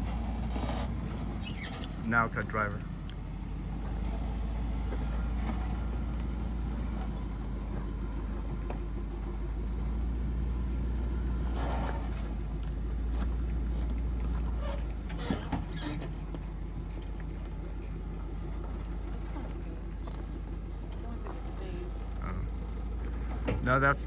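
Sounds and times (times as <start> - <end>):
vehicle engine at low revs: 0.0 - 24.0.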